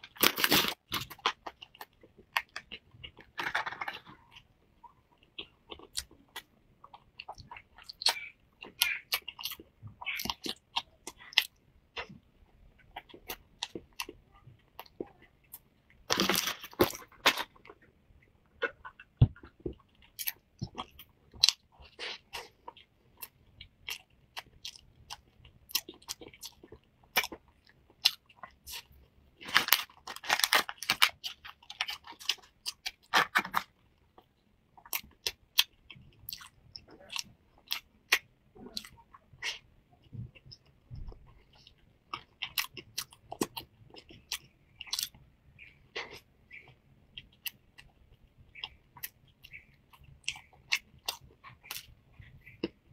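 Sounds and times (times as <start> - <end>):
crunchy pastry chewing: 0.0 - 52.9.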